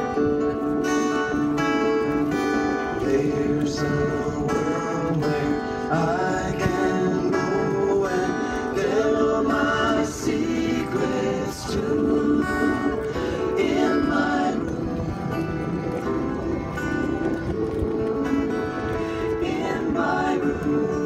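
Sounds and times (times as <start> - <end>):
country music with plucked strings: 0.0 - 21.0.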